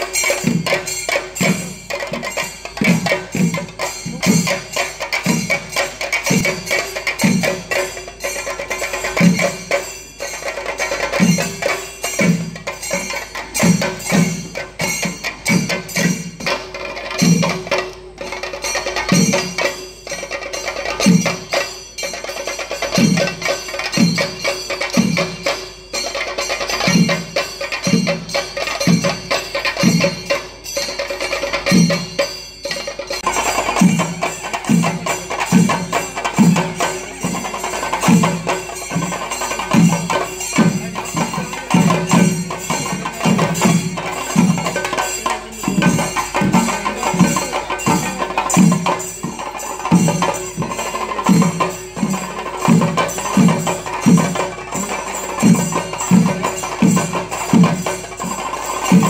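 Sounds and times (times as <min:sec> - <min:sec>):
drums beating heavy rhythm: 0:00.0 - 0:59.0
hand cymbals clashing: 0:00.0 - 0:59.0.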